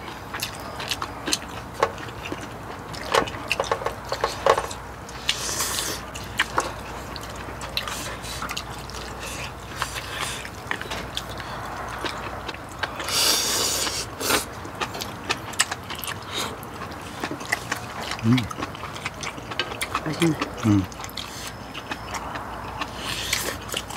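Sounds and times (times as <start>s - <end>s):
wet chewing and slurping: 0.0s - 23.9s.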